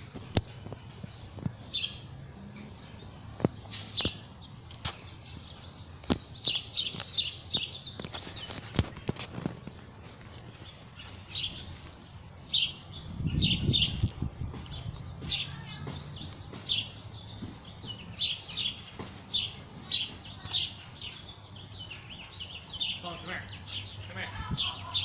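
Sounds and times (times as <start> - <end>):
small bird chirping: 0.4 - 25.0.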